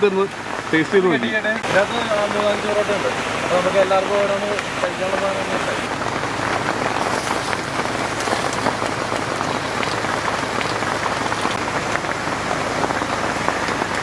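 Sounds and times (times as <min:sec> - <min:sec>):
heavy rain on a tarp: 0:00.0 - 0:14.0.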